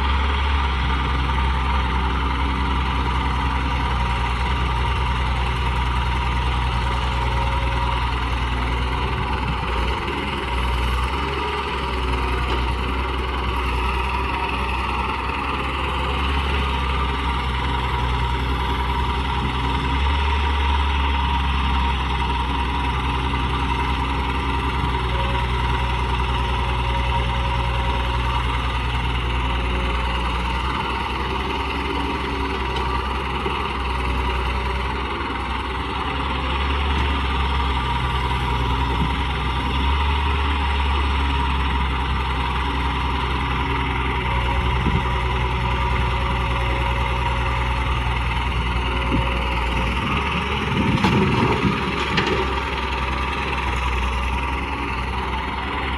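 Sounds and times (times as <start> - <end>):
model excavator motor drone: 0.0 - 55.9.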